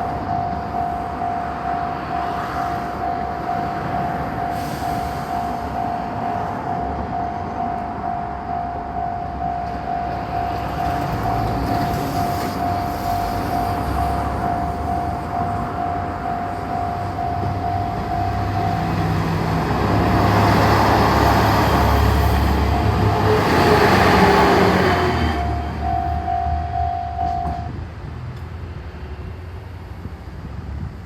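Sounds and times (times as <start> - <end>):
crossing warning bell: 0.0 - 27.8
diesel railcar rumble: 0.0 - 31.0.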